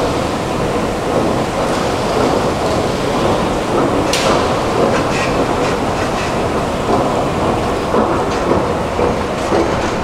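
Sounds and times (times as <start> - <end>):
metro train rumbling on rails: 0.0 - 10.0
wheel clacks over track: 1.0 - 10.0.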